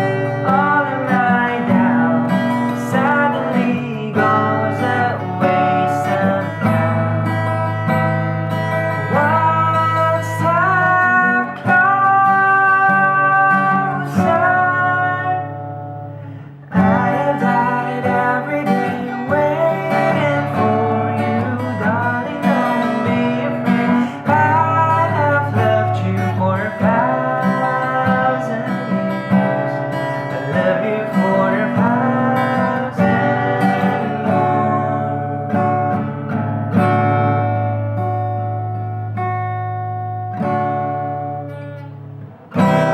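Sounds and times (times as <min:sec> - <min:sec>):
person singing: 0:00.0 - 0:07.4, 0:08.9 - 0:36.1
acoustic guitar strummed and picked: 0:00.0 - 0:42.9.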